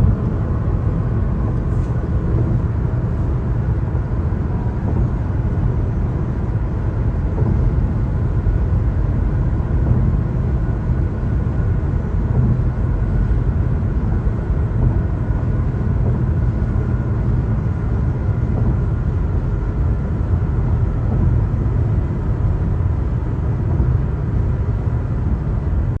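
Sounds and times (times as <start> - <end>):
faint steady whine: 0.0 - 26.0.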